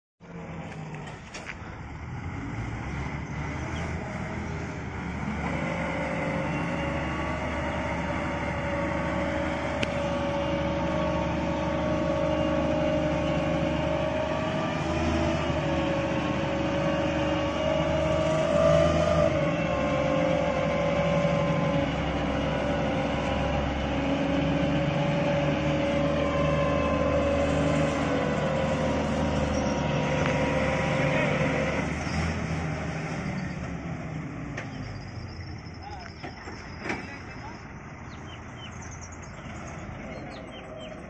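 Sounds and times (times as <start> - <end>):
combine harvester engine whine: 0.2 - 41.0.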